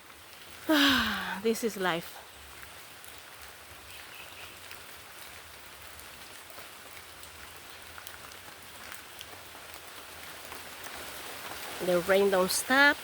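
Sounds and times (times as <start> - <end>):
rain on foliage: 0.0 - 13.0
water drips and patters: 0.0 - 13.0.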